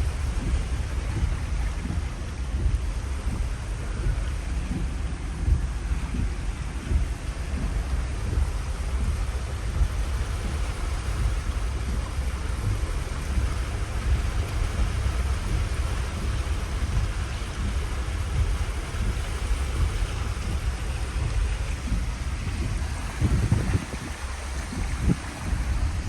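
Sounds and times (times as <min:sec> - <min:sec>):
heavy rain: 0:00.0 - 0:26.0
running floodwater: 0:00.0 - 0:26.0
wind on microphone: 0:00.0 - 0:26.0.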